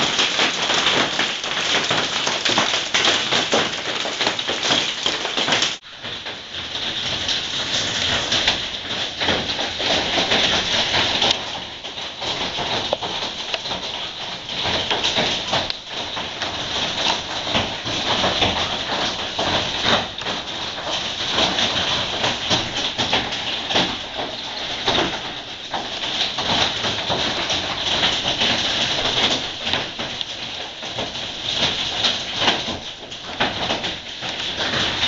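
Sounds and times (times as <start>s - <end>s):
hail clattering: 0.0s - 35.0s
hiss of falling ice and rain: 0.0s - 35.0s.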